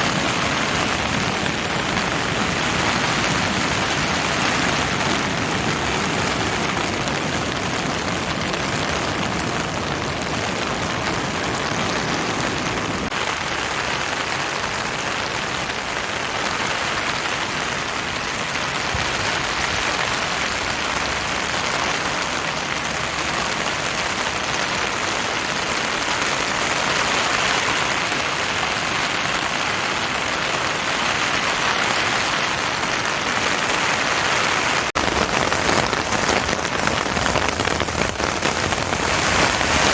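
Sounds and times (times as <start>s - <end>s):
heavy rain and rushing water: 0.0s - 39.9s.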